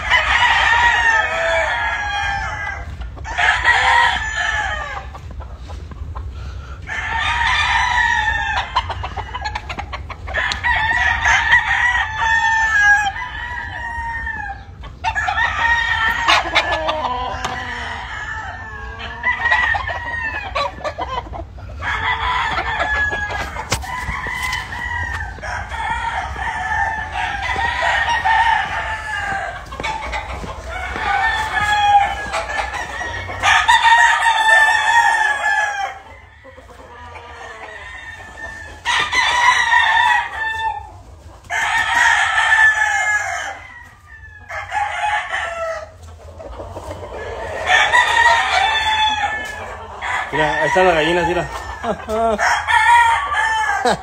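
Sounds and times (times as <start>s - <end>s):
roosters crowing: 0.0s - 54.0s.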